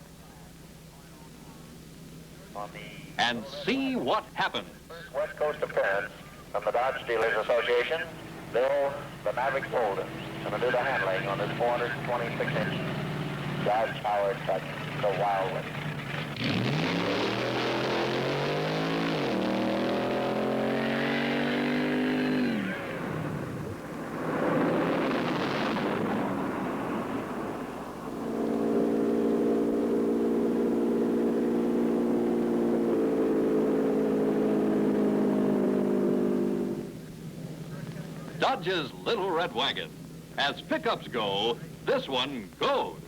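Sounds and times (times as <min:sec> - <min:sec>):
engine revving: 0:07.1 - 0:42.2.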